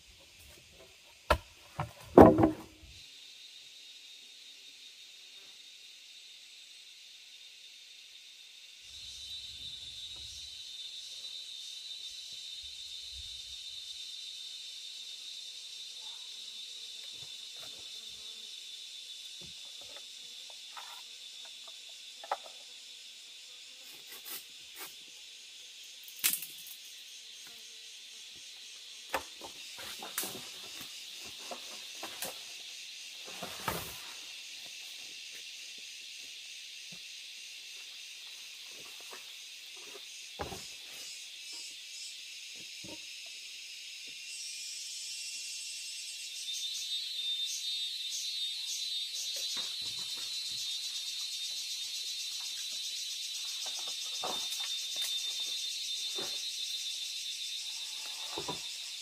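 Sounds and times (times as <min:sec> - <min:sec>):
high-pitched insect chorus: 0:00.0 - 0:59.0
pulsing insect call: 0:00.0 - 0:59.0.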